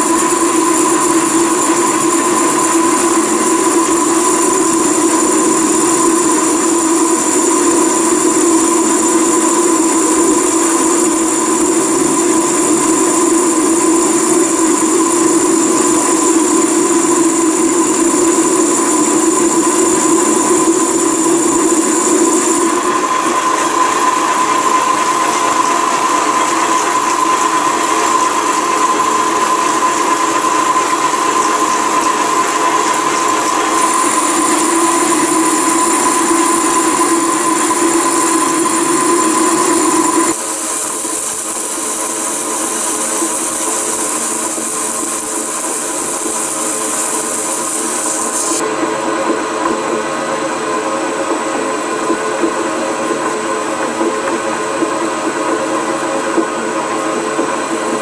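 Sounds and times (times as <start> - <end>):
lathe gear whine: 0.0 - 58.0.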